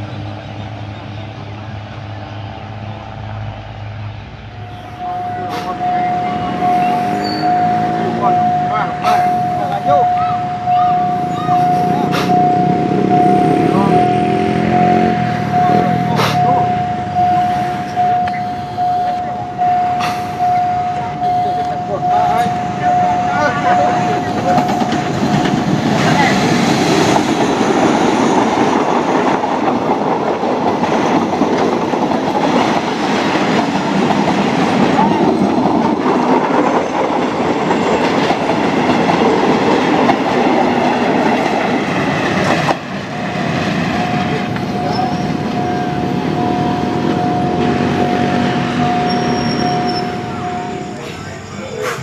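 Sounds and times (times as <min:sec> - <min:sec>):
steady high tone: 0:00.0 - 0:29.8, 0:34.5 - 0:52.0
train wheels clattering on rails: 0:04.6 - 0:52.0.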